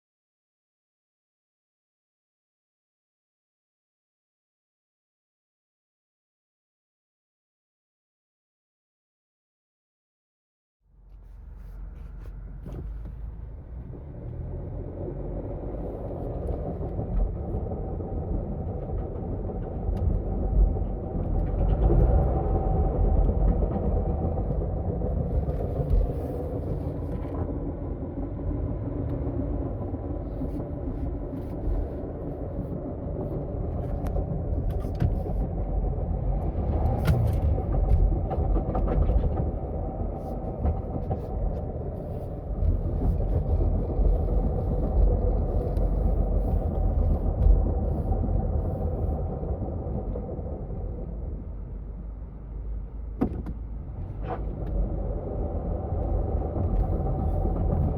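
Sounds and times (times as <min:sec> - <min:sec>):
road rumble: 0:10.8 - 0:57.9.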